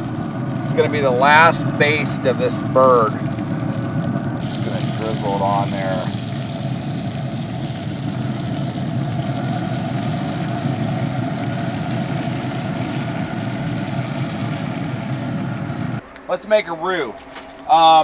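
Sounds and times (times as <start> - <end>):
noisy rush: 0.0 - 18.0
steady mechanical hum: 0.0 - 18.0.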